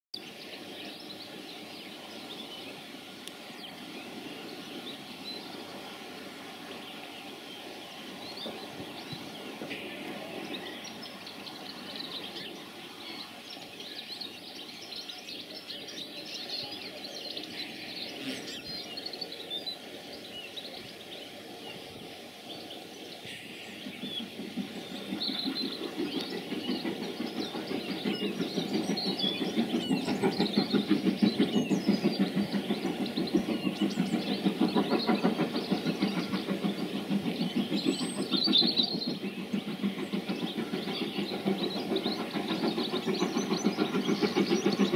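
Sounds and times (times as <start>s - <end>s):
outdoor background noise: 0.2s - 44.9s
birds chirping: 0.3s - 44.9s
steam locomotive exhaust beats: 0.4s - 44.9s.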